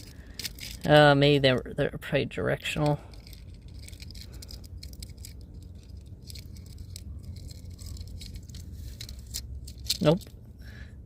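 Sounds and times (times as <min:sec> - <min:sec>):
plastic covers clicking and scraping: 0:00.0 - 0:01.6, 0:02.7 - 0:10.4
low steady hum: 0:00.0 - 0:11.0.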